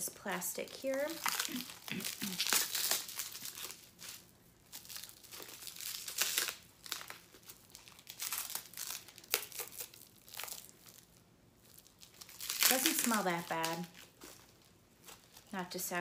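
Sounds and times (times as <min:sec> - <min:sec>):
plastic wrapping crinkling and tearing: 0:00.2 - 0:16.0.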